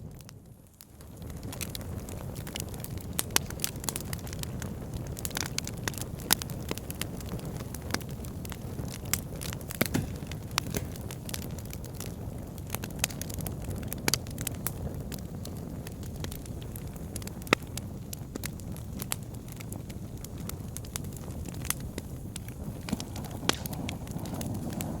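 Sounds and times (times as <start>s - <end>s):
logs crackling and popping: 0.0s - 25.0s
fire rumbling: 0.1s - 25.0s.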